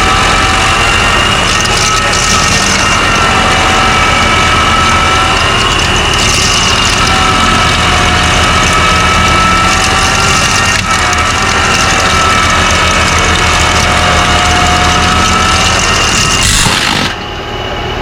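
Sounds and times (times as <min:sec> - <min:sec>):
high engine whine: 0:00.0 - 0:18.0
large engine rumbling: 0:00.0 - 0:18.0.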